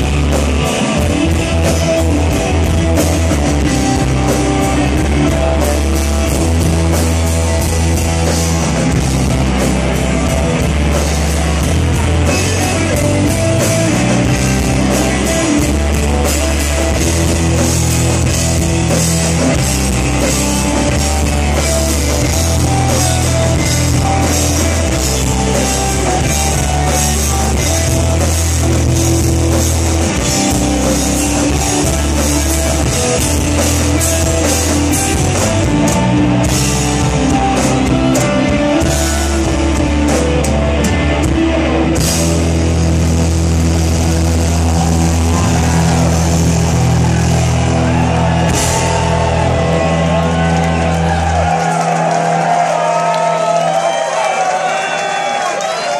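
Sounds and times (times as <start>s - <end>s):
drum kit with cymbals: 0.0s - 50.5s
bass guitar: 0.0s - 55.9s
electric guitars: 0.0s - 55.9s.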